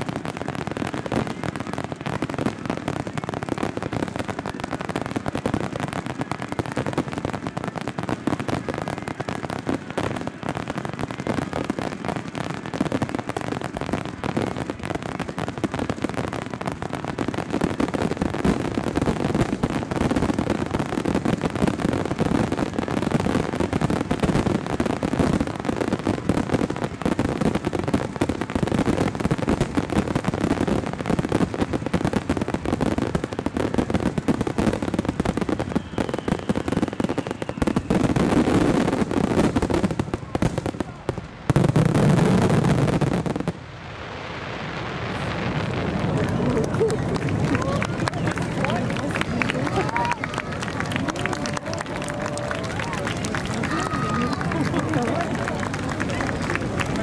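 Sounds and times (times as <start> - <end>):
fireworks launching and bursting: 0.0 - 57.0.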